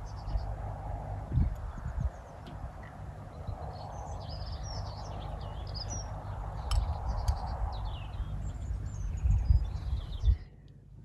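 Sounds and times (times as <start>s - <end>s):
birds chirping and twittering: 0.0s - 10.9s.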